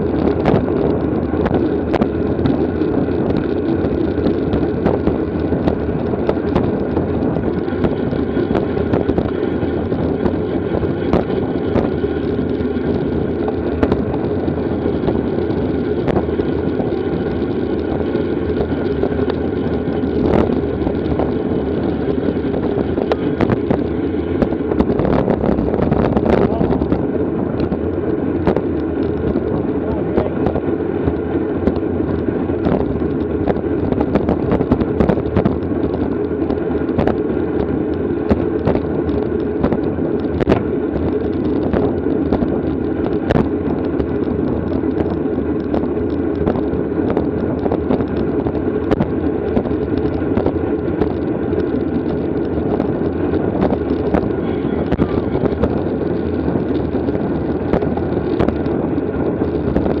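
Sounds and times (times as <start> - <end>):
bicycle clicks and ticks: 0.0 - 60.0
wind and road noise: 0.0 - 60.0.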